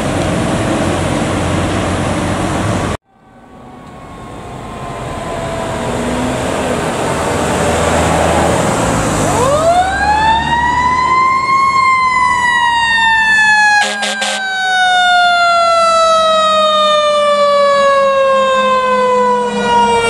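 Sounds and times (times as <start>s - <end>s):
fire truck engine passing: 0.0s - 20.0s
fire truck siren wailing: 2.9s - 20.0s.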